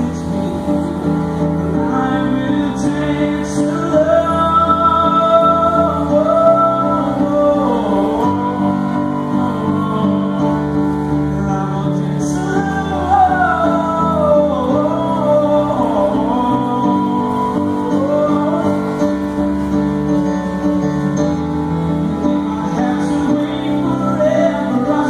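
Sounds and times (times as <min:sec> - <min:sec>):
man singing: 0:00.0 - 0:20.2, 0:21.3 - 0:25.0
piano chords: 0:00.0 - 0:25.0.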